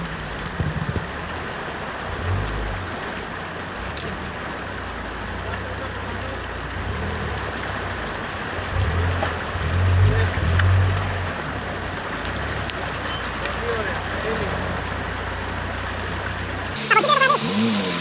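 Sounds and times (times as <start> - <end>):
off-road engine droning: 0.0 - 18.0.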